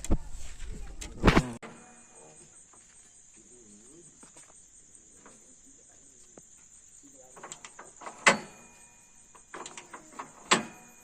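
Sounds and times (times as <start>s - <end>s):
insects trilling: 1.2s - 11.0s.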